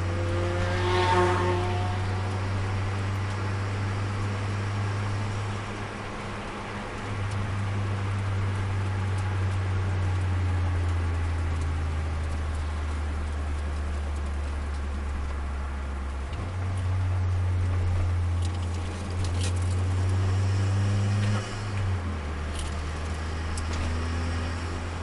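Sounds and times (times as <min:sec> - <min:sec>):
car engine droning: 0:00.0 - 0:25.0
road and wind hiss: 0:00.0 - 0:25.0.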